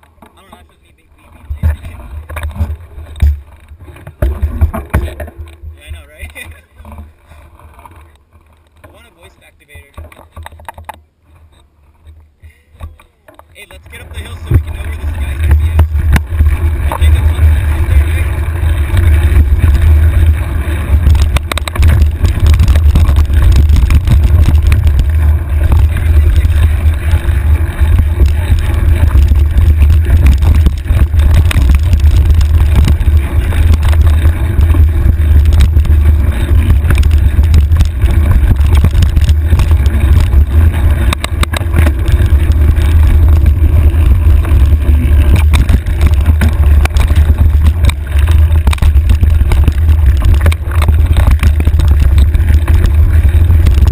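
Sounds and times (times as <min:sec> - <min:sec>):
wind rumble on microphone: 0:00.0 - 0:12.2, 0:12.8 - 0:53.9
bike clicks and rattles: 0:00.0 - 0:53.9.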